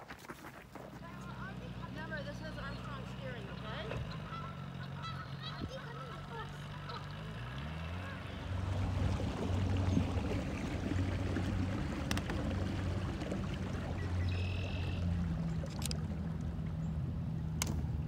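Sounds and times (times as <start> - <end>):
water along hull: 0.0 - 18.0
outboard motor running: 0.6 - 18.0.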